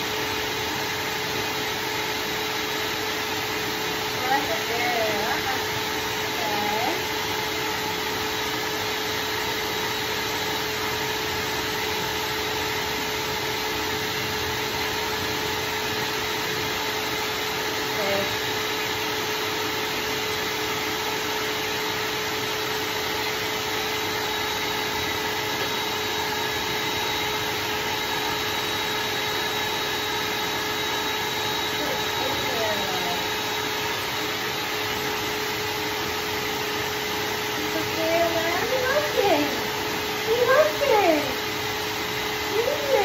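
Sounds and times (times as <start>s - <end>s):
dog grooming dryer blowing air: 0.0s - 43.0s.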